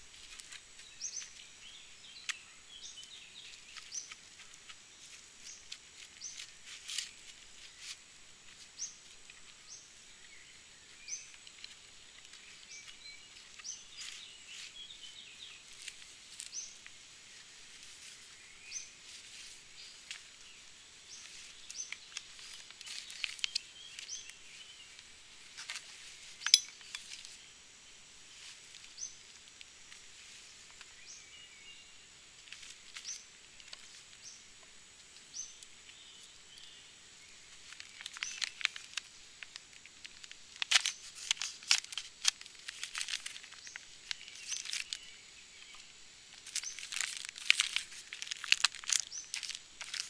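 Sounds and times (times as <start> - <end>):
bird chirping: 0.0 - 28.0, 28.8 - 32.1, 32.7 - 50.0
rustling leaves and wooden boards: 0.0 - 50.0.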